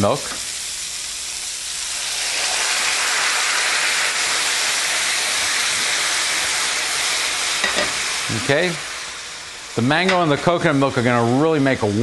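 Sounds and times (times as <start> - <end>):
liquid sizzling in hot pan: 0.0 - 12.0.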